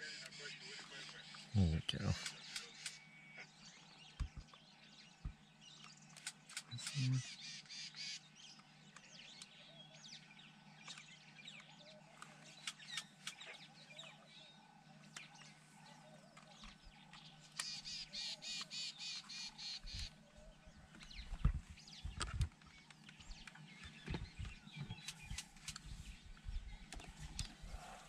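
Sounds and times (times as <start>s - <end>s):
birds calling and chirping: 0.0s - 28.0s.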